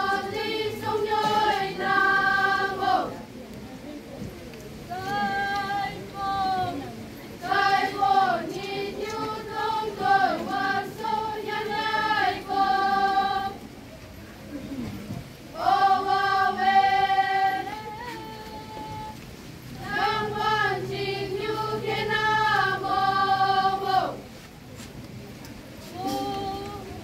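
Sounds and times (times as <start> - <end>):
girls singing a folk song: 0.0 - 3.4, 4.9 - 14.0, 15.4 - 24.5, 25.8 - 27.0.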